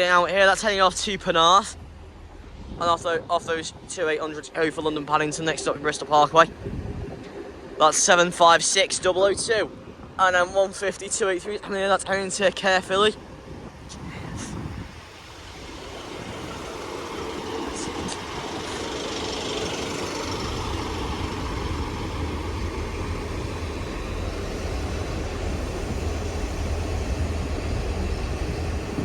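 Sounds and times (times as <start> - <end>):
diesel train engine rumble: 0.0 - 29.0.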